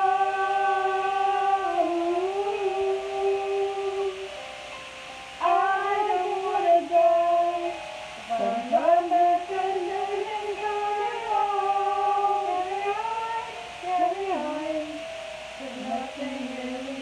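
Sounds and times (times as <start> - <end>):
women singing long held notes: 0.0 - 4.4, 5.4 - 17.0.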